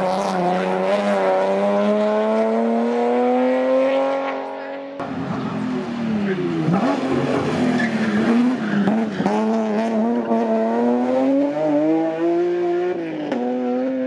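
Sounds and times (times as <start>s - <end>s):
race car accelerating hard: 0.0s - 14.0s.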